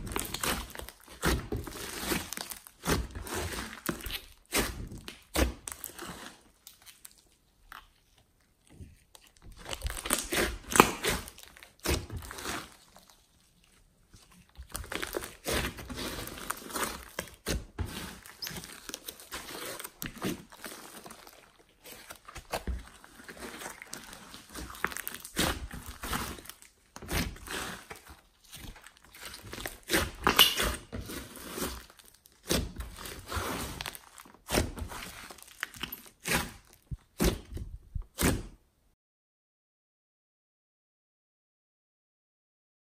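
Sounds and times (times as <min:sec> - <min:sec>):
slime squishing and crackling: 0:00.0 - 0:38.5.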